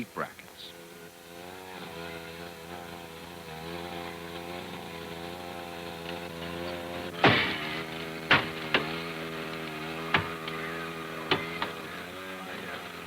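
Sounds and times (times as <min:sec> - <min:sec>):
gasoline power unit running: 0:00.0 - 0:13.0.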